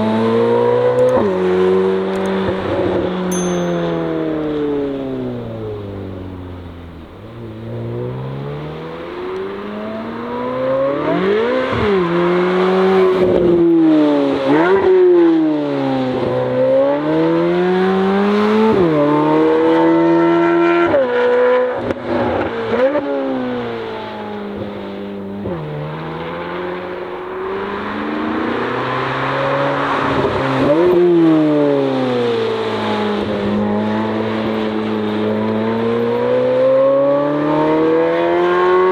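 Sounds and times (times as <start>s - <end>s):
car engine revving with gear shifts: 0.0s - 3.3s, 4.5s - 38.9s.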